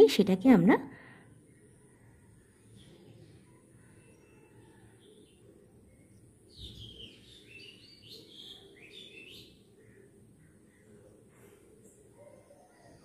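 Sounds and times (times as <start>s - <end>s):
low room noise: 0.0s - 13.0s
bird chirping: 1.5s - 13.0s.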